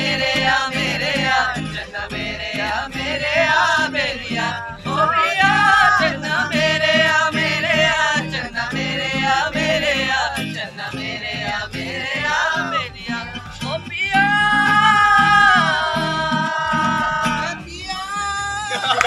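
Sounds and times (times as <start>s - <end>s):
group of people singing: 0.0s - 19.0s
strummed guitar: 0.0s - 19.0s.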